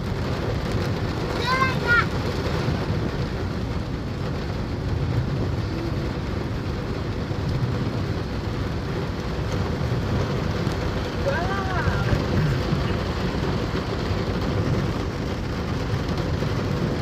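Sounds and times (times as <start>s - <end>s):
passing road traffic: 0.0s - 17.0s
rain: 0.0s - 17.0s.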